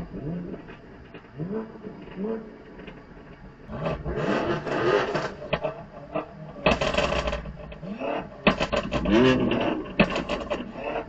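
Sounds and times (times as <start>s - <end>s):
car exhausts revving: 0.0s - 11.0s
exhaust pops and crackles: 0.0s - 11.0s.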